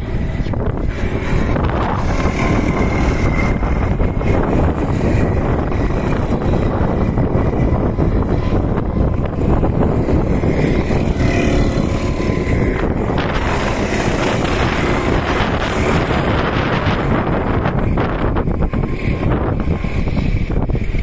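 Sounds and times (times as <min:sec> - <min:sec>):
go-kart engines passing: 0:00.0 - 0:21.0
wind buffeting microphone: 0:00.0 - 0:21.0.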